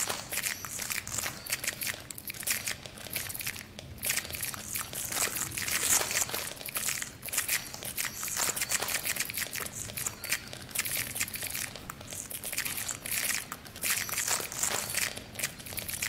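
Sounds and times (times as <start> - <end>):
irregular crackling and crinkling: 0.0 - 16.0.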